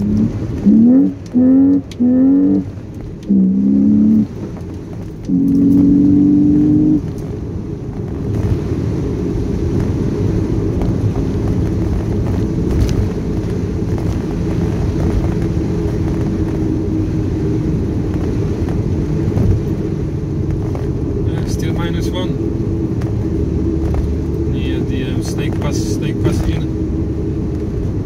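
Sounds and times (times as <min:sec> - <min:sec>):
car engine running: 0:00.0 - 0:28.0
tyre rumble and road noise: 0:00.0 - 0:28.0.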